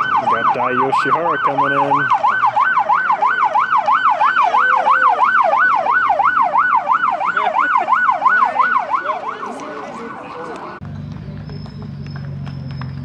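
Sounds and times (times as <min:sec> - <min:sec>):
electronic yelp siren: 0:00.0 - 0:10.7.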